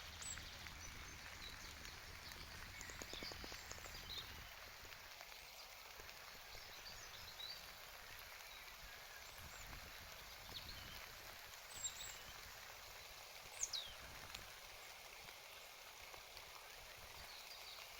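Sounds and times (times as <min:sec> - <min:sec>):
light rain hissing: 0:00.0 - 0:17.9
small birds chirping: 0:00.0 - 0:17.9.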